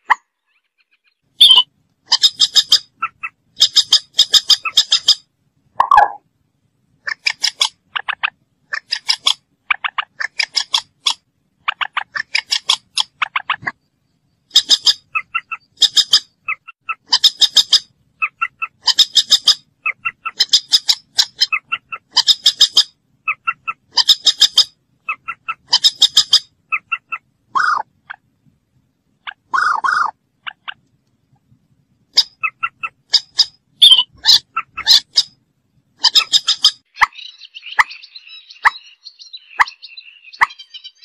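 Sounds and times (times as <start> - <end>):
moorhen calling: 0.0 - 6.2, 7.0 - 28.3, 29.2 - 30.8, 32.1 - 35.4, 36.0 - 41.0.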